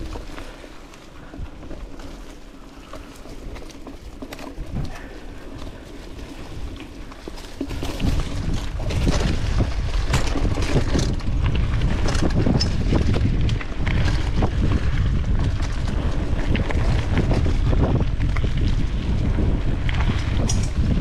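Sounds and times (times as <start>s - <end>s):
bike clattering over rough trail: 0.0s - 21.0s
wind buffeting microphone: 0.0s - 21.0s.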